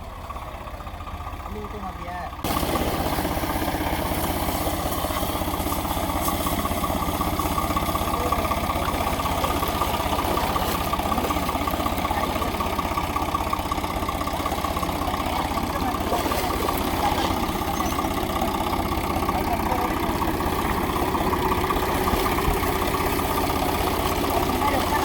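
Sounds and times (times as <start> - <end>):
constant engine whine: 0.0 - 25.0
diesel engine idling: 0.0 - 25.0.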